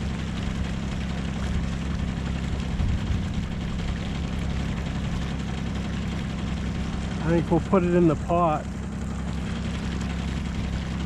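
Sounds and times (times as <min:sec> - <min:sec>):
outboard motor droning: 0:00.0 - 0:11.0.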